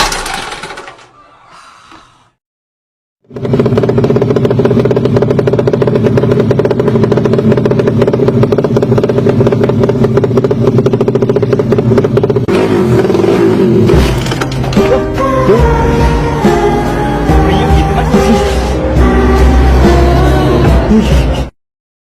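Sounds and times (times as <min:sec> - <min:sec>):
motorcycle engine running: 0:03.2 - 0:21.2.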